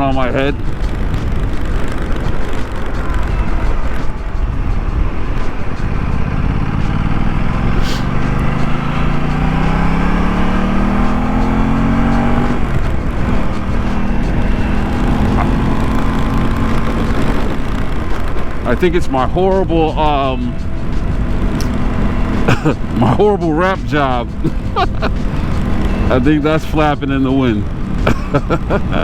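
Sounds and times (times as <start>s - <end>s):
motorcycle engine accelerating: 0.0s - 29.0s
wind rumble on microphone: 0.0s - 29.0s.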